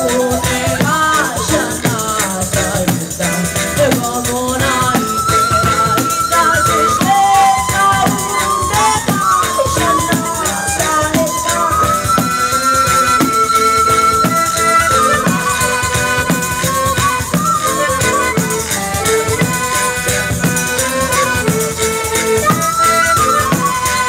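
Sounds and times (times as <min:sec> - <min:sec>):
accordion: 0:00.0 - 0:24.0
frame drum with jingles: 0:00.0 - 0:24.0
guitar: 0:00.0 - 0:24.0
wind instrument melody: 0:00.0 - 0:24.0.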